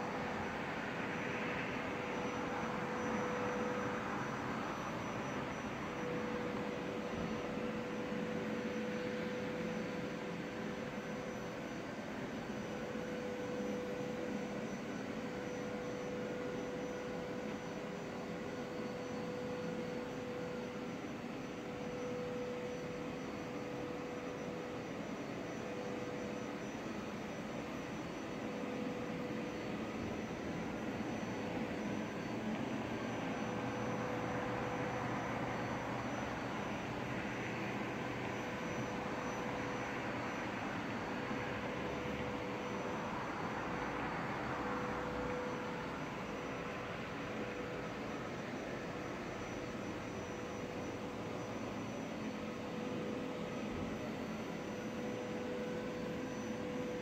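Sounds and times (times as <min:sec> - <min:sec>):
constant mid-pitched tone: 0:00.0 - 0:57.0.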